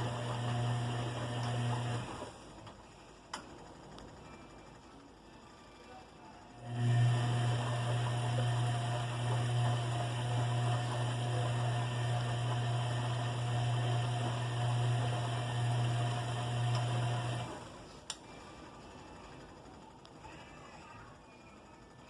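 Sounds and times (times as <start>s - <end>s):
washing machine humming: 0.0s - 20.5s.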